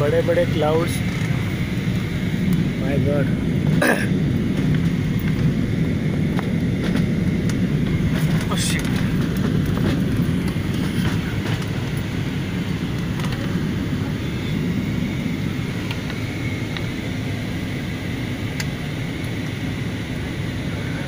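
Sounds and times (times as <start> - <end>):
airliner engine rumble in cabin: 0.0 - 21.0
faint steady whine: 0.0 - 21.0.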